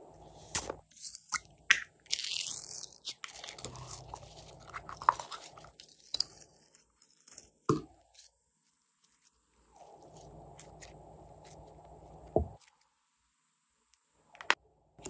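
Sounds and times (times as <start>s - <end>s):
slime squelching: 0.2s - 12.8s.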